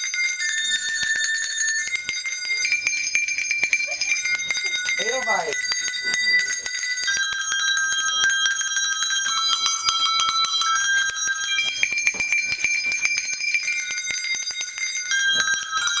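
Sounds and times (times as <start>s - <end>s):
tuned cow bells playing a tune: 0.0s - 16.0s.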